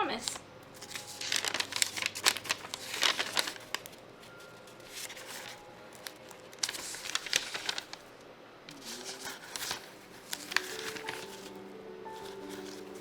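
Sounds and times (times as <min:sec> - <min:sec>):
paper rustling: 0:00.2 - 0:13.0.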